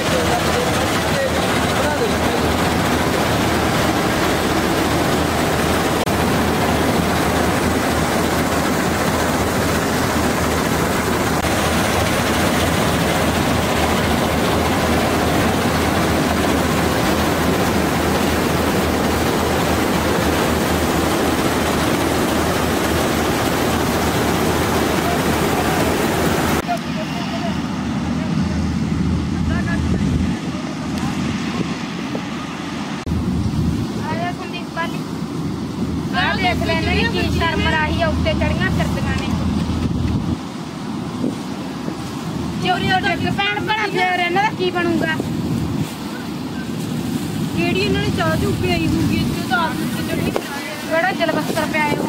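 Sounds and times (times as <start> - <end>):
combine harvester running: 0.0 - 52.0.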